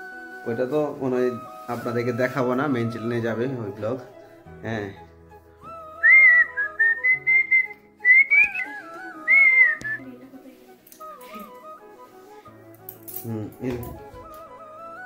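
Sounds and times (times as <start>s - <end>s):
high whistle-like melody: 0.0s - 10.2s, 10.8s - 15.0s.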